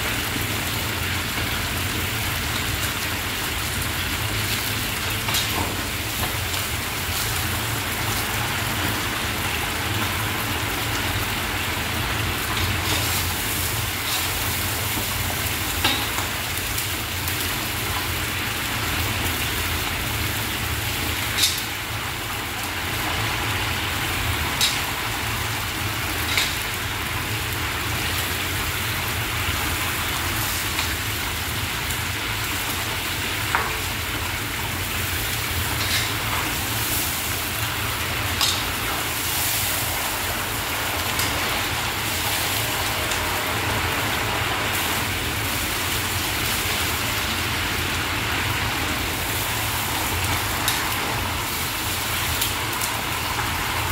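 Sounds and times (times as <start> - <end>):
meat sizzling in hot oil: 0.0 - 53.9.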